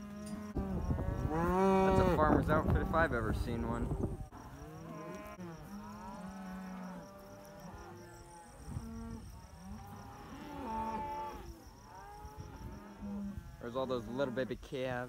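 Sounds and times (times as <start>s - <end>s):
cattle mooing: 0.0s - 14.5s.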